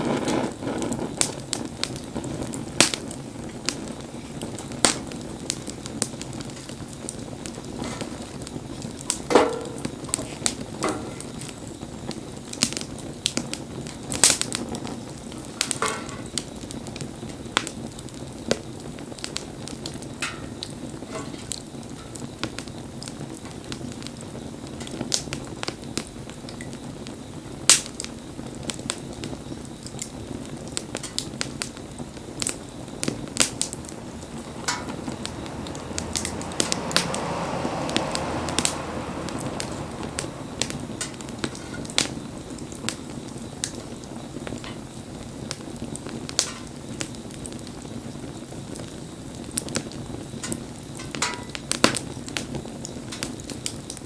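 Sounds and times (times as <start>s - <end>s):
burning wood cracking and popping: 0.0s - 54.0s
fire hissing: 0.0s - 54.0s
low rumble of flame: 0.0s - 54.0s.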